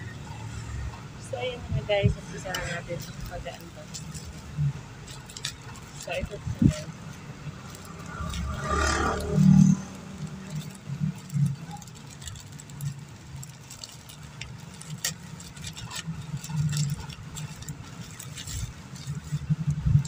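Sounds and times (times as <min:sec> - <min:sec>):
plastic parcel rustling and tearing: 0:02.1 - 0:20.0.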